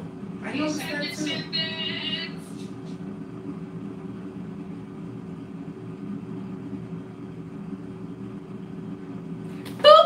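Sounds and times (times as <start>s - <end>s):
air fryer fan humming: 0.0s - 10.0s.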